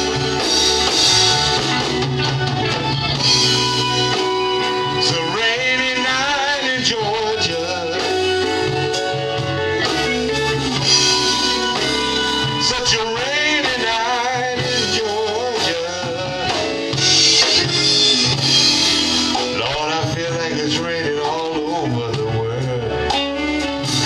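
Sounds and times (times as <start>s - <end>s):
live band playing soul ballad: 0.0s - 24.0s.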